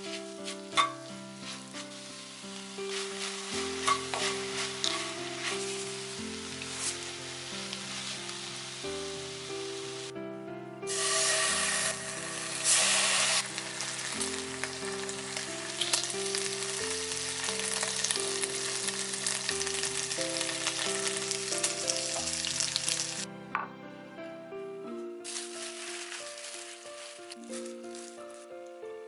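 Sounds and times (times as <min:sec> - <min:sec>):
food sizzling in a frying pan: 0:00.0 - 0:10.1, 0:10.9 - 0:23.3, 0:25.3 - 0:28.2
soft instrumental music: 0:00.0 - 0:29.0.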